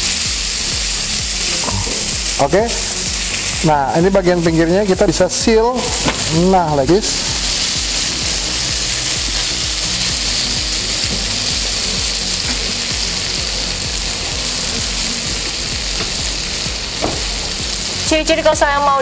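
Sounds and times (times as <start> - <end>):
meat sizzling in a griddle pan: 0.0 - 19.0.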